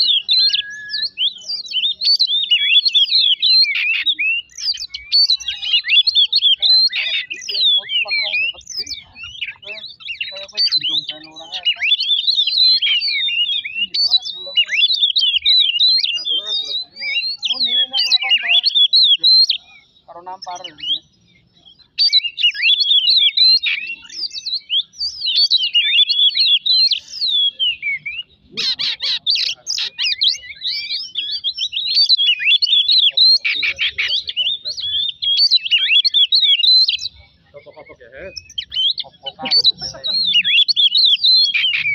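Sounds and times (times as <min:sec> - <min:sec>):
bird singing whistled phrases: 0:00.0 - 0:41.9.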